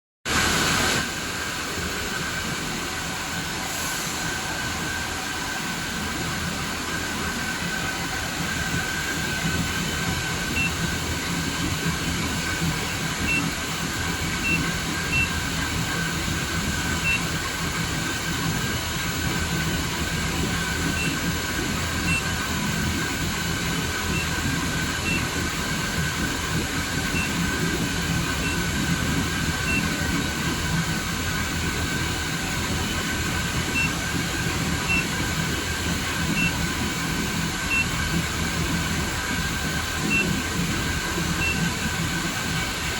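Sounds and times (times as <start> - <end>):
machinery noise with high whine: 0.3 - 42.9.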